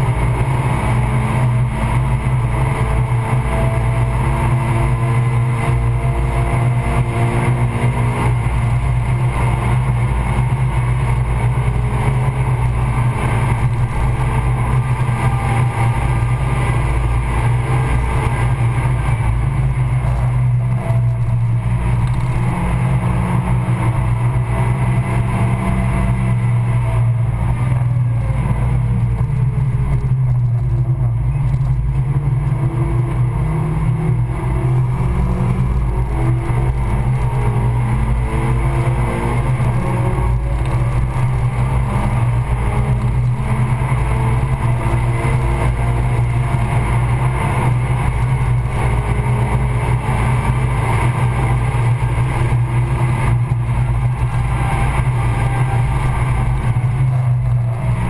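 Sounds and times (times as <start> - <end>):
car engine revving: 0.0 - 58.0
road noise: 0.0 - 58.0
wind noise: 0.0 - 58.0.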